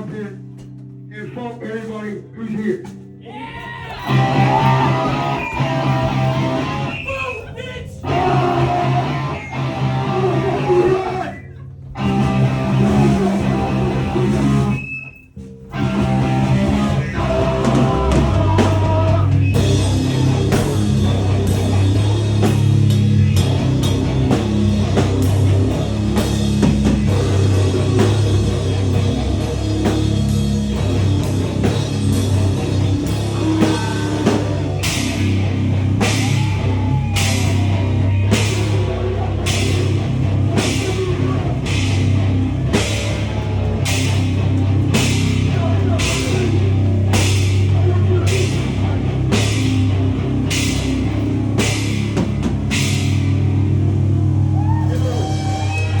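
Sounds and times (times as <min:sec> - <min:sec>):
punk band playing: 0:00.0 - 0:56.0.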